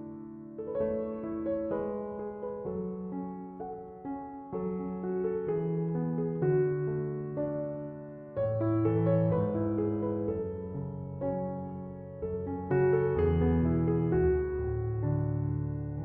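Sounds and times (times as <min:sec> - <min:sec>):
electric piano chords and melody: 0:00.0 - 0:16.0.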